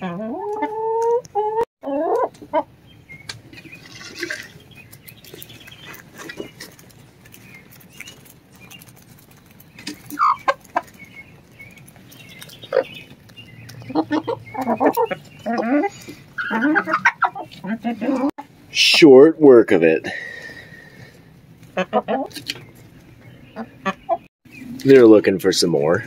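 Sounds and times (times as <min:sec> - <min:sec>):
hens clucking: 0:00.0 - 0:19.6, 0:20.5 - 0:24.3
beaks pecking dirt: 0:00.1 - 0:18.4, 0:20.5 - 0:25.4.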